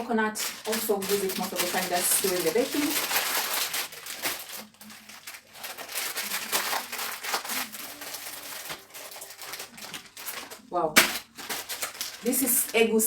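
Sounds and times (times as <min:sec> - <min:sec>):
food packets rustling and crinkling: 0:00.0 - 0:13.0.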